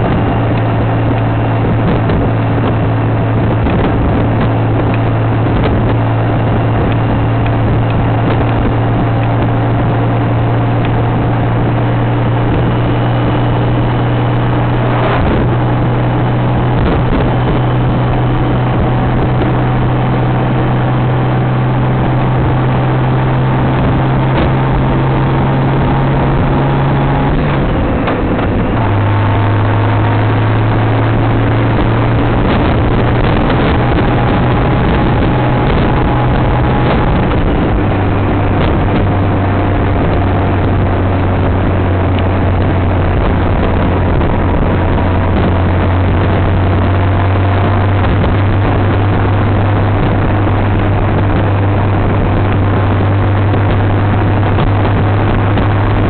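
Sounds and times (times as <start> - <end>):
motorcycle engine cruising: 0.0 - 56.0
wind rushing past microphone: 0.0 - 56.0.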